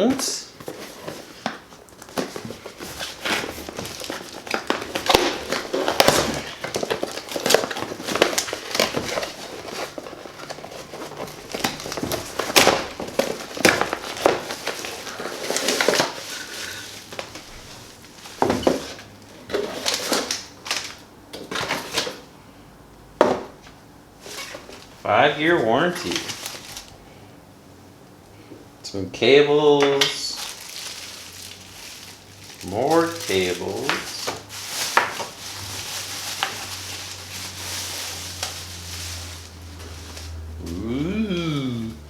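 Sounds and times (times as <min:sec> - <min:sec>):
packaging crinkling and rustling: 0:00.0 - 0:22.3, 0:24.2 - 0:27.0, 0:29.7 - 0:40.9.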